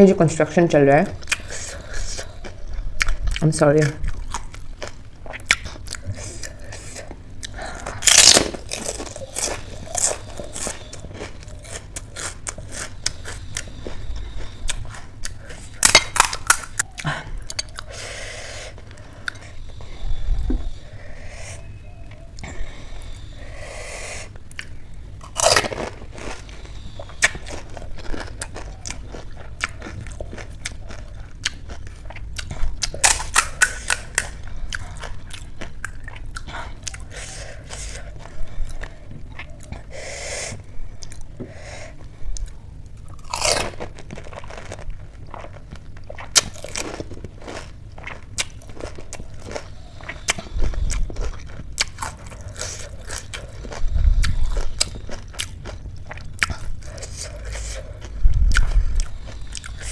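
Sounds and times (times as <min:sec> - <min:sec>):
crunching and chewing of crisp shells: 0:00.0 - 0:59.9.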